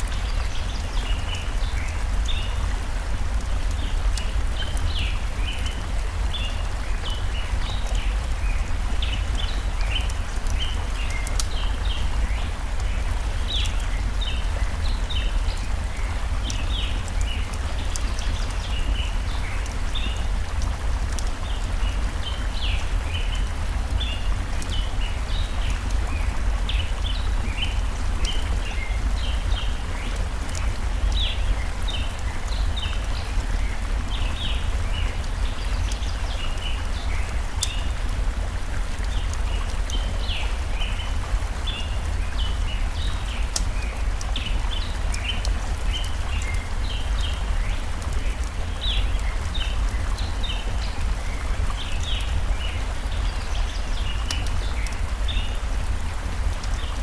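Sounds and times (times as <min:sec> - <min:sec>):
stream rushing: 0:00.0 - 0:57.0
wood fire crackling: 0:00.0 - 0:57.0.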